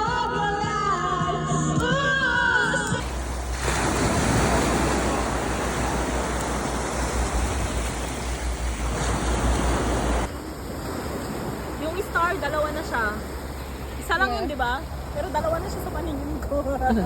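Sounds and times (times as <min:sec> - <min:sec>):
ocean surf washing in: 0:03.0 - 0:17.0.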